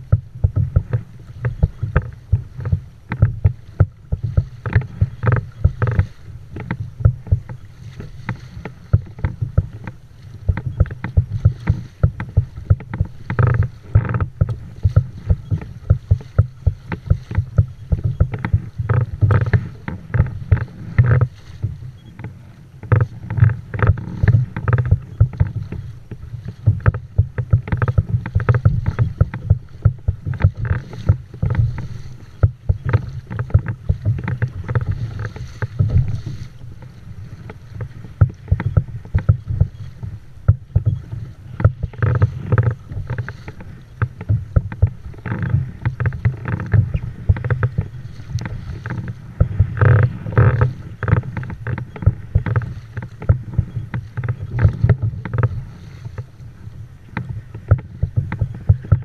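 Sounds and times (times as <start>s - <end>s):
water slapping against kayak hull: 0.0s - 59.0s
wind rumble on microphone: 0.0s - 59.0s.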